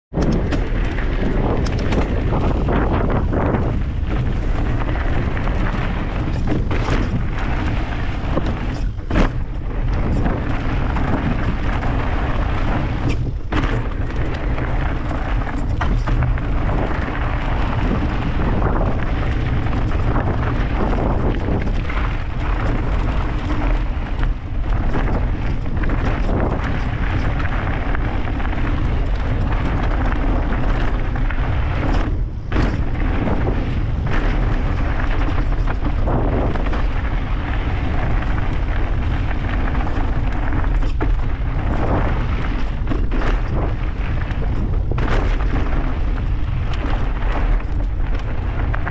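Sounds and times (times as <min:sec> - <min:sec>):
wind rumble on microphone: 0:00.0 - 0:48.9
bike knocks and rattles: 0:00.1 - 0:48.9
tyres on dirt: 0:00.1 - 0:48.9.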